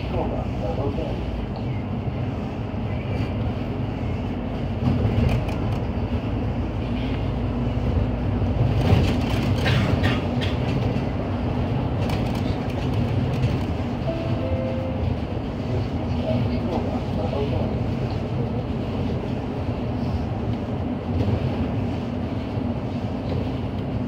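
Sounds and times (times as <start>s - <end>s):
bus rattling: 0.0s - 24.0s
bus road rumble: 0.0s - 24.0s.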